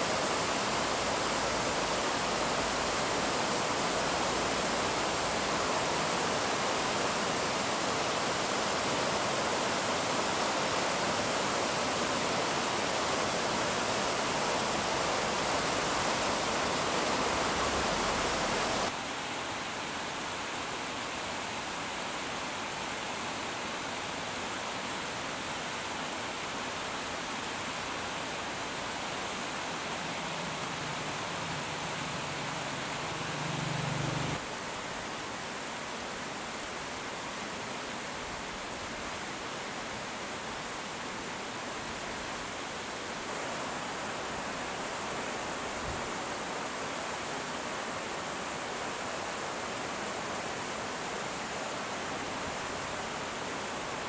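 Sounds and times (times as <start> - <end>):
rushing flowing water: 0.0 - 54.0.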